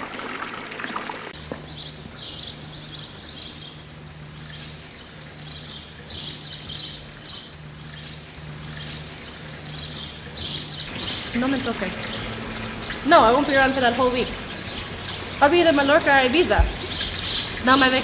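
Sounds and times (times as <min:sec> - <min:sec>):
low steady hum: 0:01.4 - 0:18.0
small birds chirping: 0:01.4 - 0:18.0.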